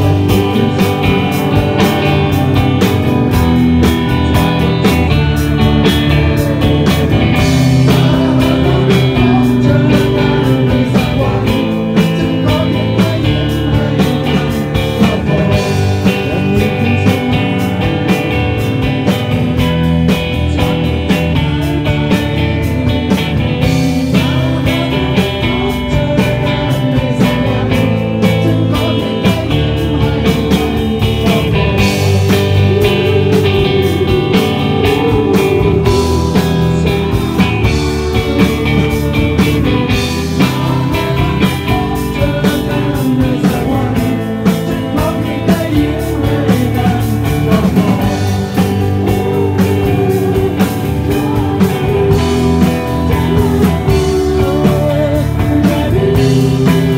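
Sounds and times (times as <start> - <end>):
live rock band playing: 0.0 - 56.9
person singing into microphone: 0.0 - 56.9.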